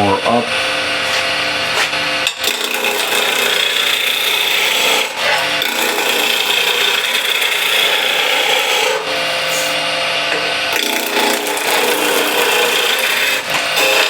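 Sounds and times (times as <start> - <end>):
chisel scraping spinning wood: 1.1 - 14.0.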